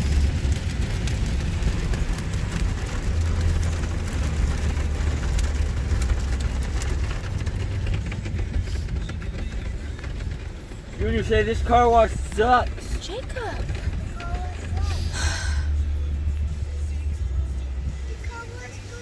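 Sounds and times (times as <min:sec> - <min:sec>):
water spattering on car body: 0:00.0 - 0:16.9
car wash machinery rumble: 0:00.0 - 0:19.0.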